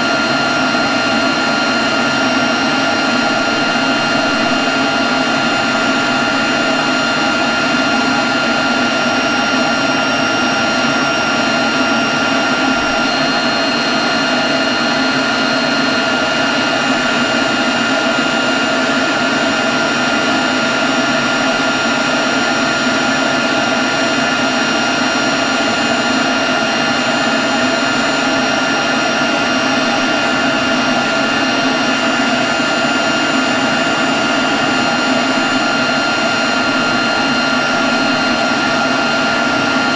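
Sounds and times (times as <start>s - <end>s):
leaf blower running: 0.0s - 39.9s.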